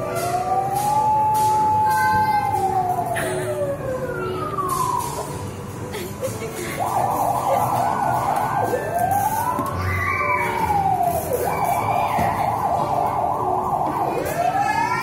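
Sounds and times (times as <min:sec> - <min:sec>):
siren wailing and yelping: 0:00.1 - 0:05.4, 0:06.8 - 0:15.0.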